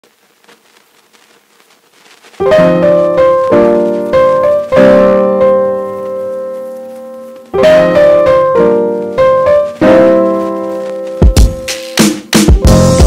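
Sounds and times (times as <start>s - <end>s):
piano chords: 2.4s - 13.0s.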